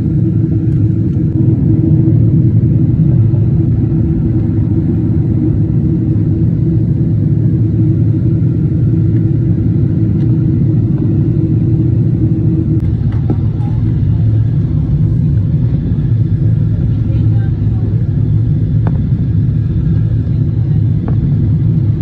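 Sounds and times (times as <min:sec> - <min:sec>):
jet cabin engine rumble: 0:00.0 - 0:22.0.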